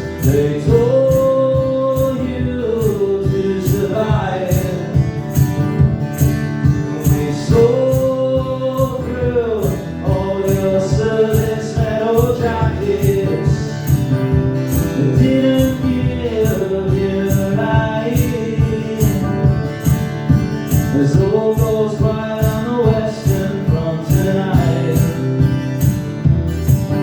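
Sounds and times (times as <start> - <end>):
man singing wordless melody: 0.0 - 5.5, 6.6 - 20.0, 20.7 - 25.6
acoustic guitar strumming: 0.0 - 27.0.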